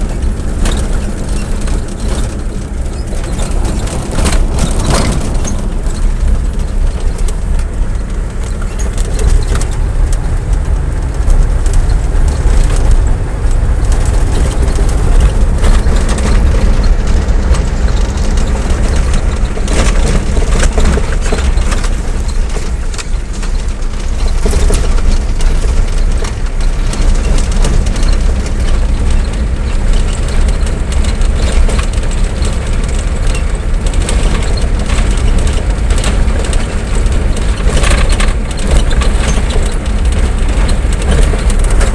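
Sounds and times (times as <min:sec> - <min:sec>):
vehicle engine and road rumble: 0:00.0 - 0:41.9.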